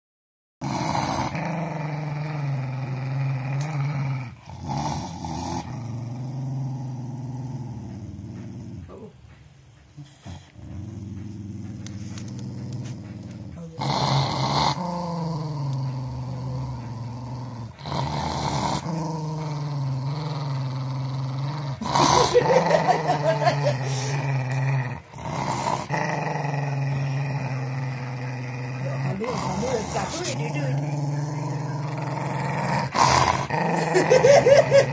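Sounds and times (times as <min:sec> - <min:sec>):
dog growling and snarling: 0:00.6 - 0:34.9.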